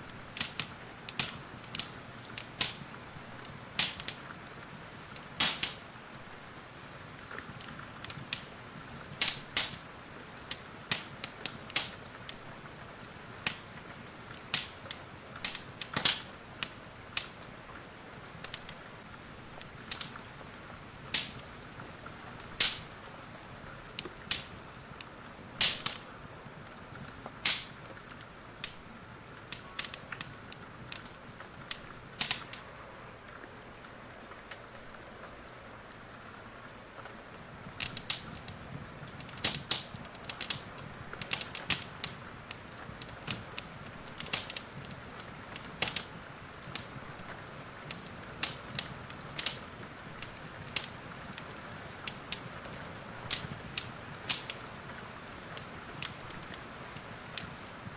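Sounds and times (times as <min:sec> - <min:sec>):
wood fire crackling and popping: 0:00.0 - 0:35.5, 0:36.8 - 0:57.9
rain hissing: 0:00.0 - 0:57.9.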